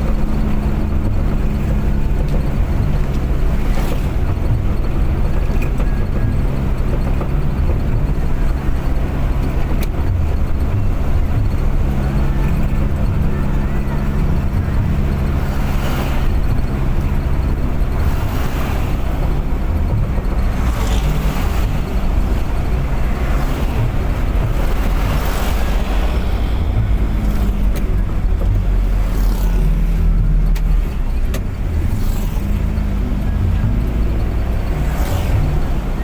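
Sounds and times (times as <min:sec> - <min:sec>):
car engine running: 0:00.0 - 0:36.0
road noise: 0:00.0 - 0:36.0.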